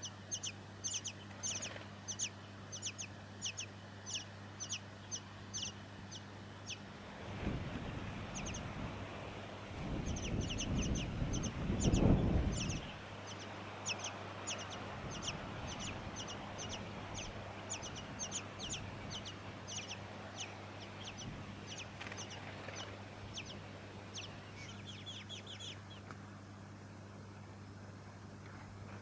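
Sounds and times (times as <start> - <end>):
nestlings begging chips: 0.0 - 6.8, 7.8 - 8.9, 9.8 - 26.1
low steady hum: 0.0 - 29.0.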